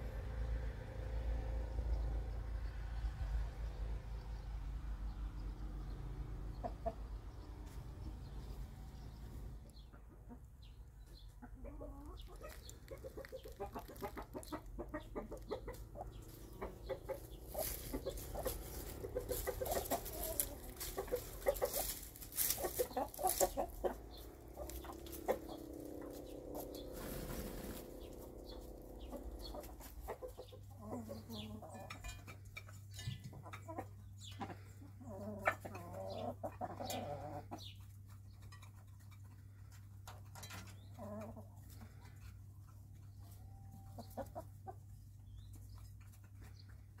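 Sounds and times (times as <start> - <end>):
hens clucking: 6.5 - 7.8, 8.4 - 47.0.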